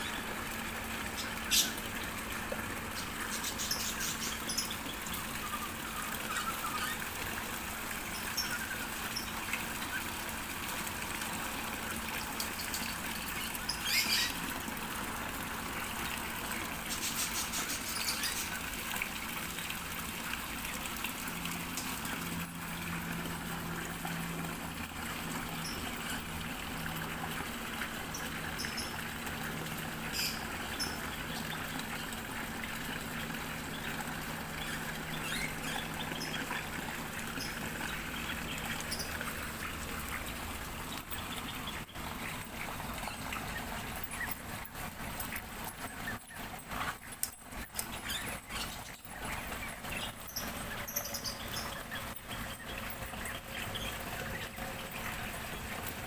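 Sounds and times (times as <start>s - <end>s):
birds chirping: 0.0s - 10.4s, 11.0s - 14.5s, 16.1s - 19.4s, 24.4s - 44.6s, 45.2s - 56.0s
water trickling: 0.0s - 56.0s.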